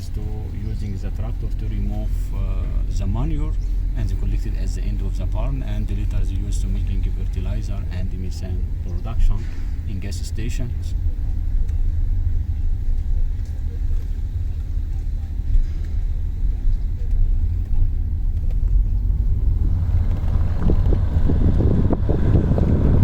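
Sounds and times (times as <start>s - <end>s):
low rumble: 0.0s - 23.0s
mid-range noise: 0.0s - 23.0s.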